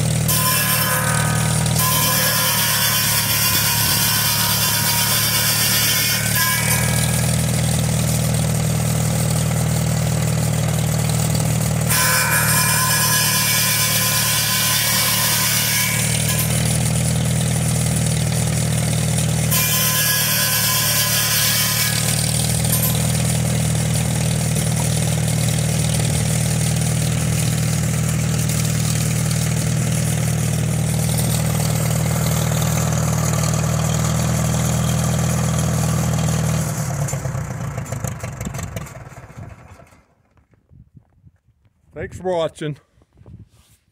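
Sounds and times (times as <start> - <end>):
tractor engine running: 0.0 - 14.4, 16.0 - 19.5, 22.0 - 40.6
buzz saw cutting log: 0.0 - 37.2.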